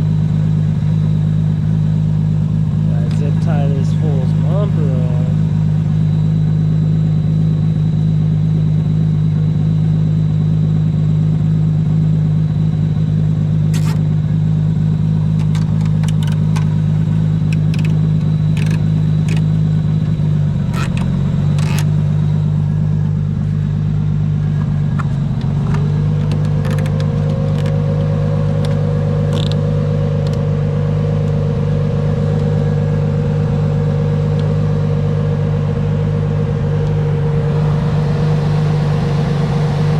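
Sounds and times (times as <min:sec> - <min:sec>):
car engine idling: 0:00.0 - 0:39.9
steady whining tone: 0:00.0 - 0:39.9.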